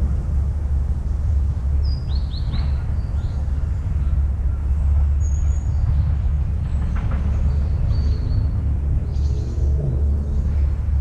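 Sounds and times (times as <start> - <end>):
steady low rumble: 0.0 - 11.0
small birds chirping: 1.8 - 10.8.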